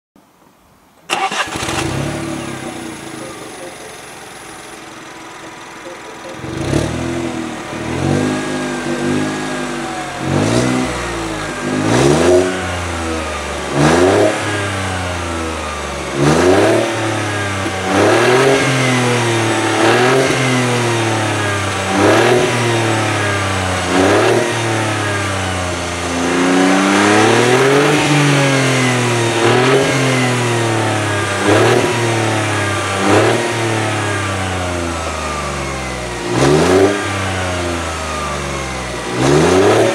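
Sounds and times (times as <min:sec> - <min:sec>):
car engine revving: 0:01.1 - 0:39.9.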